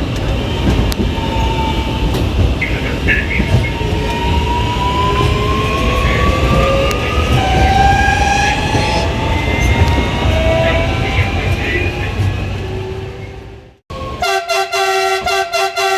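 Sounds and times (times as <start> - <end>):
train running gear rumble: 0.0 - 13.8
train motors whining: 0.0 - 14.2.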